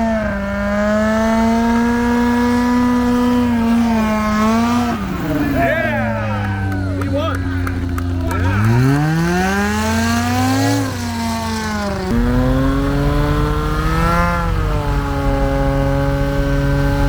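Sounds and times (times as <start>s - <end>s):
light aircraft engine revving: 0.0s - 17.0s.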